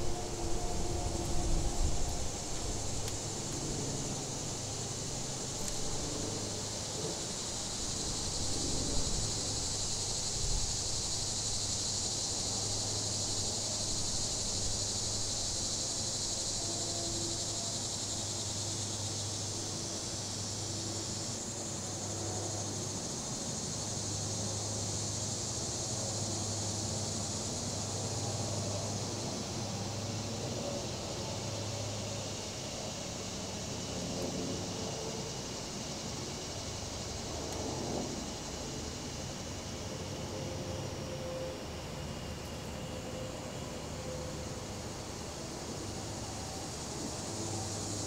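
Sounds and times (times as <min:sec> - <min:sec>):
cicadas buzzing: 0:00.0 - 0:48.0
distant highway traffic hum: 0:00.0 - 0:48.0
light wind: 0:00.0 - 0:48.0.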